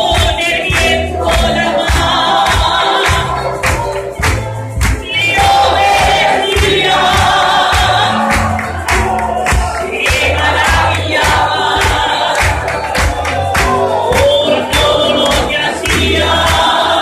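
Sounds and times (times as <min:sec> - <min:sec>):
congregation singing: 0:00.0 - 0:17.0
live band playing: 0:00.0 - 0:17.0
steady drum beat: 0:00.0 - 0:17.0.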